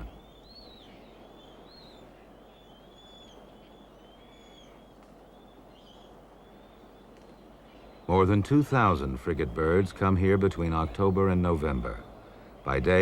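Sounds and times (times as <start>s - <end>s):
bird whistling calls: 0.0s - 13.0s
low steady hiss: 0.0s - 13.0s.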